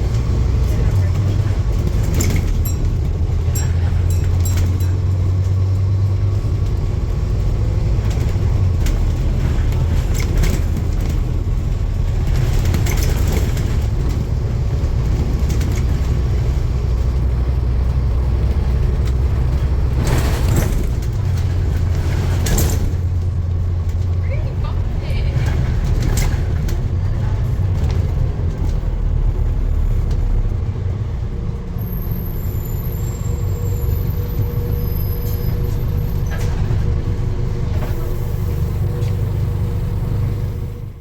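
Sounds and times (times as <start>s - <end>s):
vehicle engine rumble: 0.0s - 41.0s.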